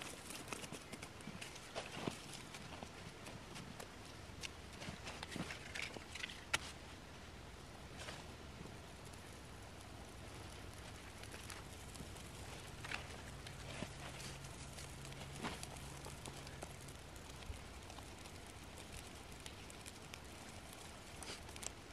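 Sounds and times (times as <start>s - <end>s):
bark crackling as it burns: 0.0s - 21.9s
low steady hum: 0.0s - 21.9s.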